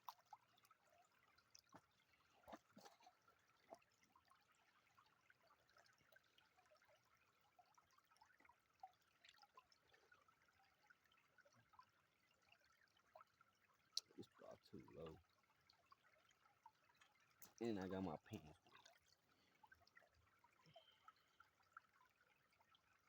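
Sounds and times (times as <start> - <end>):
small drips and splashes: 0.0 - 23.0
stream water trickling: 0.0 - 23.0.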